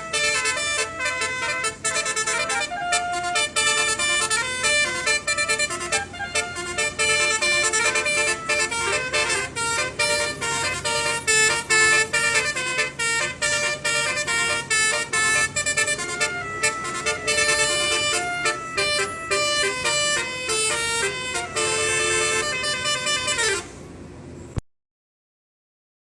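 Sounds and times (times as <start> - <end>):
low engine hum: 0.0 - 24.6
multi-tone truck horn melody: 0.0 - 24.6.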